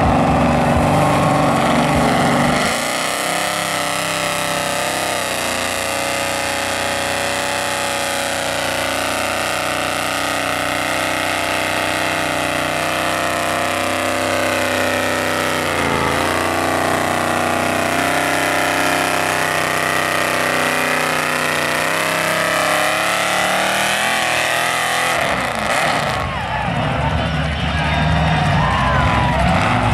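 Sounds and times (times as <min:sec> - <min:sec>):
truck engine running hard: 0:00.0 - 0:29.9.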